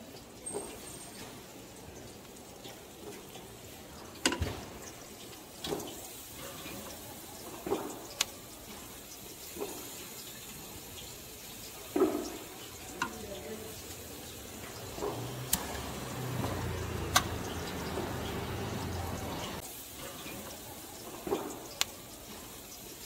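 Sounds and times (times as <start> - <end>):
skewers sizzling on charcoal grill: 0.0 - 23.0.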